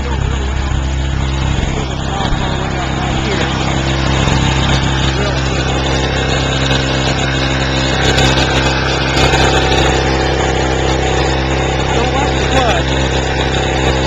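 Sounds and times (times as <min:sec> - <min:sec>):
generator engine running: 0:00.0 - 0:14.0.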